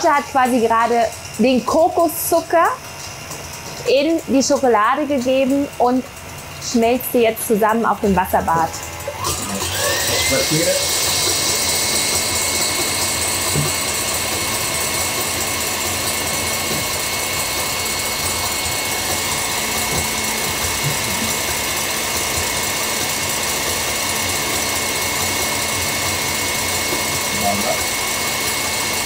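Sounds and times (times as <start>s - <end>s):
stand mixer whining: 0.0s - 29.0s.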